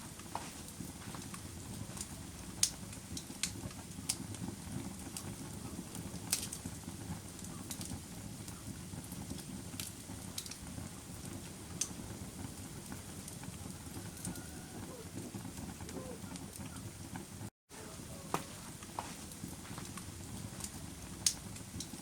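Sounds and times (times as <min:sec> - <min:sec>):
campfire flame rushing: 0:00.0 - 0:22.0
fire crackles and pops: 0:00.0 - 0:22.0.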